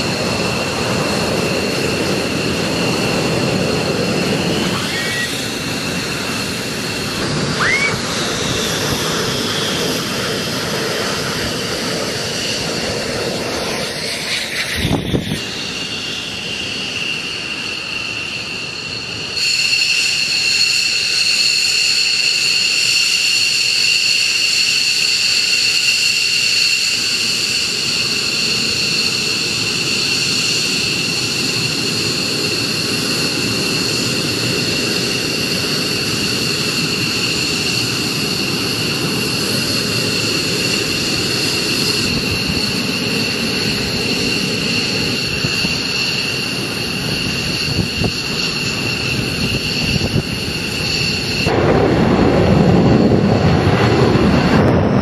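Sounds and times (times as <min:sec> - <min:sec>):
jet engines idling: 0:00.0 - 0:55.0.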